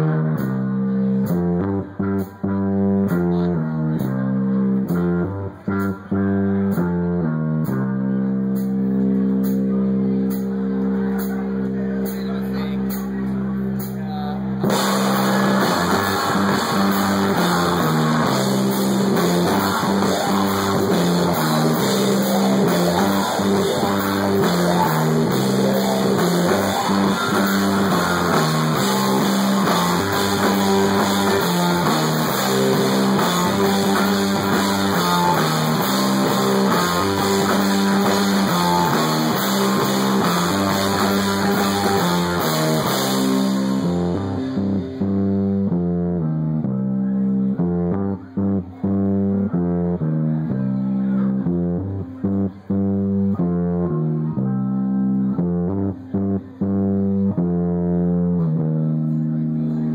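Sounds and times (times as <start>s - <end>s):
rock band playing loud: 0.0s - 59.9s.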